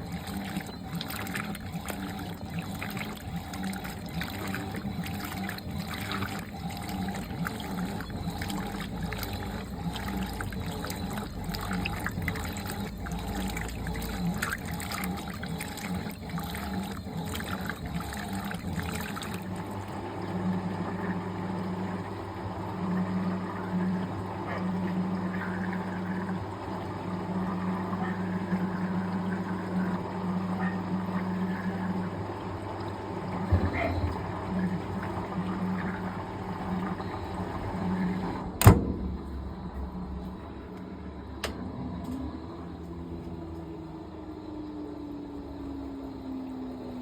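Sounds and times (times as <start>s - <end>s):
washing machine hum: 0.0s - 47.0s
water splashing in washing machine: 0.0s - 47.0s.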